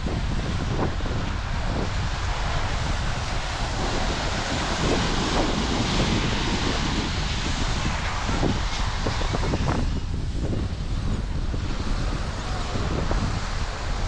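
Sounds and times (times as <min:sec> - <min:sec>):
ocean surf: 0:00.0 - 0:14.0
wind buffeting microphone: 0:00.0 - 0:14.0.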